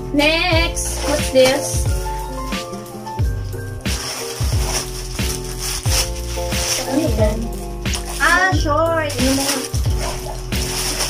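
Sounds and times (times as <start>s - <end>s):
background music with beat: 0.0s - 11.0s
plastic bags crinkling: 0.7s - 11.0s.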